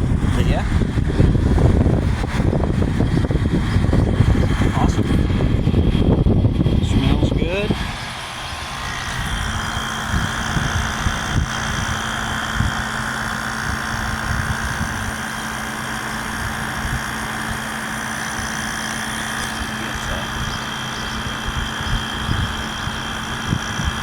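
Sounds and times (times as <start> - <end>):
air conditioner fan rushing: 0.0 - 24.0.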